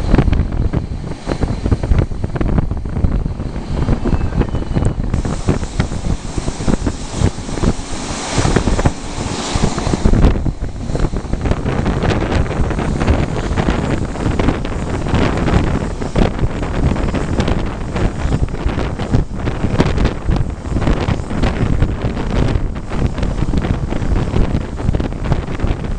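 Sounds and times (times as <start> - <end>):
train rumble: 0.0 - 25.9
wheels rattling on track: 0.0 - 25.9
wind buffeting microphone: 0.0 - 25.9.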